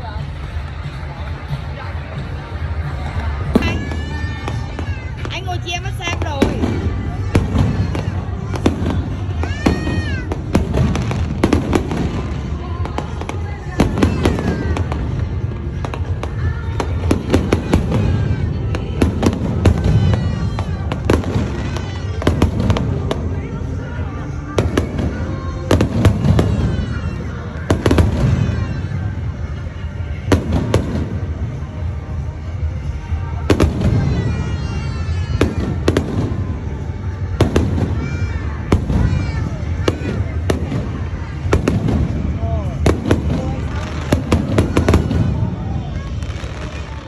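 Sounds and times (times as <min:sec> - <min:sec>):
fireworks crackling: 0:00.0 - 0:47.0
fireworks bangs: 0:00.2 - 0:47.0.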